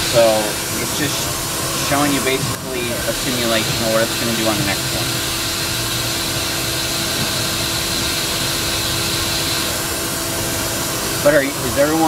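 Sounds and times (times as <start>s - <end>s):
high machine whine: 0.0s - 12.0s
milling machine running: 0.0s - 12.0s.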